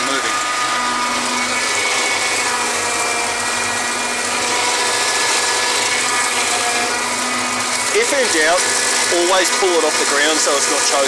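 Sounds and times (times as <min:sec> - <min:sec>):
constant mechanical whine: 0:00.0 - 0:11.0
tractor and flail mower running: 0:00.0 - 0:11.0.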